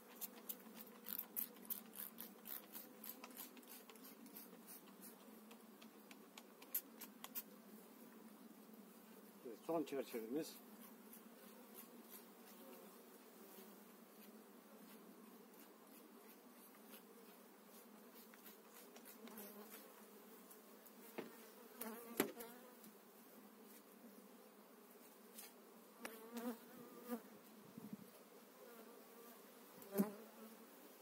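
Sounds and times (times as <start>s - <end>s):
honeybees buzzing: 0.0s - 27.6s.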